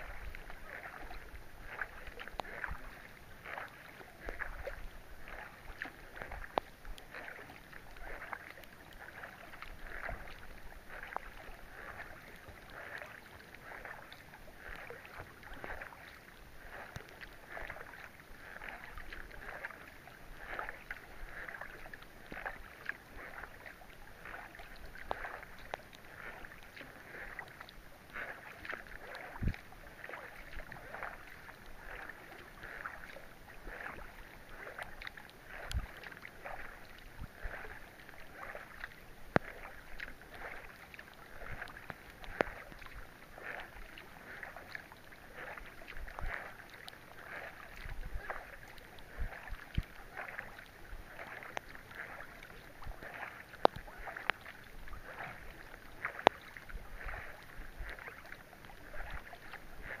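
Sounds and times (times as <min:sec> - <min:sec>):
paddle swishing through water: 0:00.0 - 1:00.0
rain falling on a lake: 0:00.0 - 1:00.0.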